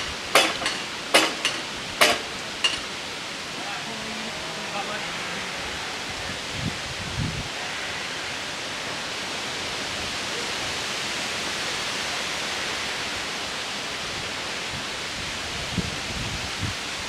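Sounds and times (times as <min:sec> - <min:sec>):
wind rustling leaves: 0:00.0 - 0:17.0.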